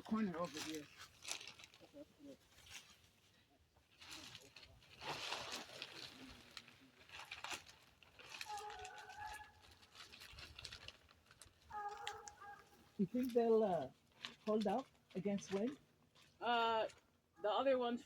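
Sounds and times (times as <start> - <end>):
plastic sheeting crinkling: 0.0 - 16.5.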